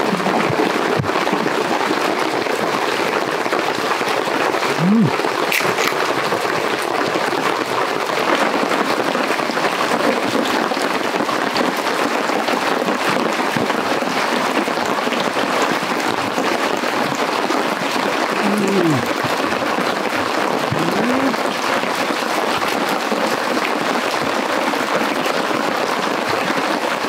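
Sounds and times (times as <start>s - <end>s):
heavy rain on a tarp: 0.0s - 27.0s.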